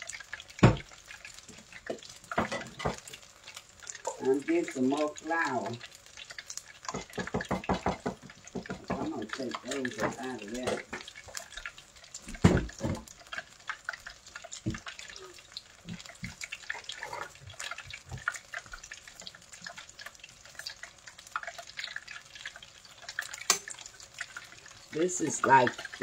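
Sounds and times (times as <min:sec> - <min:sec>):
oil crackling while deep-frying: 0:00.0 - 0:26.0.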